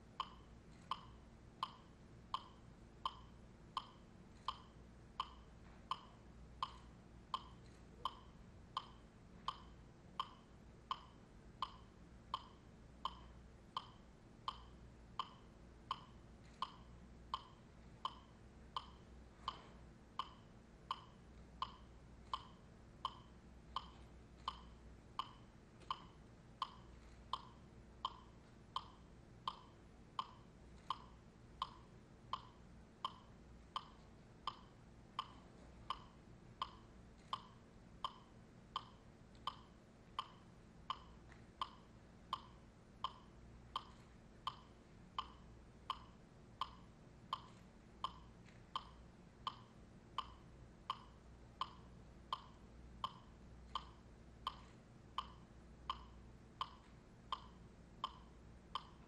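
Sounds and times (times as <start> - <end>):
metronome ticking: 0.0 - 59.0.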